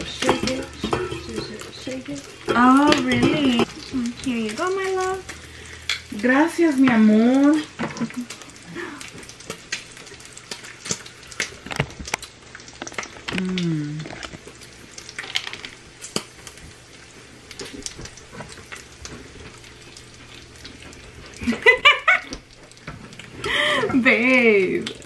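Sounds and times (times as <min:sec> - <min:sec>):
crackles and pops: 0:00.0 - 0:25.0
food sizzling in a pan: 0:00.0 - 0:25.0.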